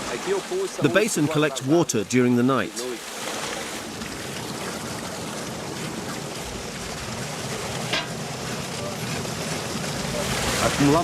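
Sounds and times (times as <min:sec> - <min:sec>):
water rushing in a channel: 0:00.0 - 0:11.0.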